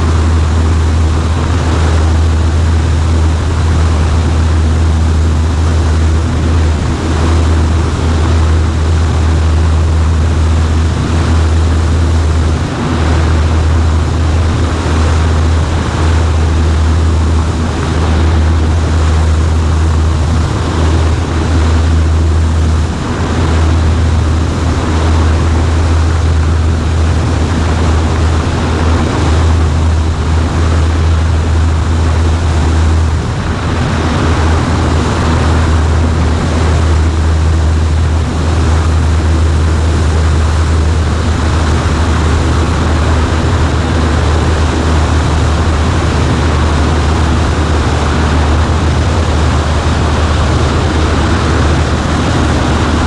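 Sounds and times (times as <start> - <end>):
small plane engine droning: 0.0 - 53.0
wind noise: 0.0 - 53.0.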